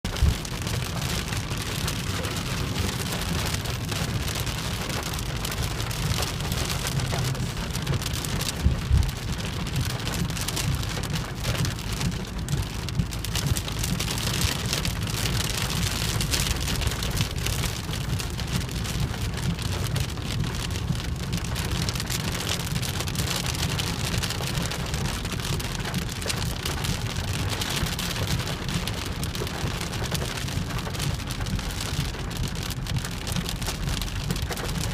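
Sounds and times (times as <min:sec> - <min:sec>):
low rumble: 0:00.0 - 0:34.9
steady rain falling: 0:00.0 - 0:34.9.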